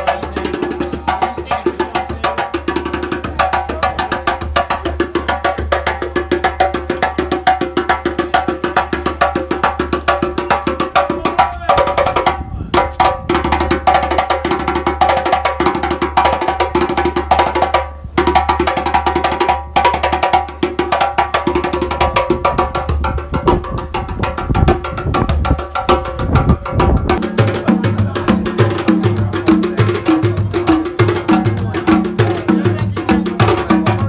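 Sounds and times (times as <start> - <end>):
hand drums and wooden strikes: 0.0 - 34.0.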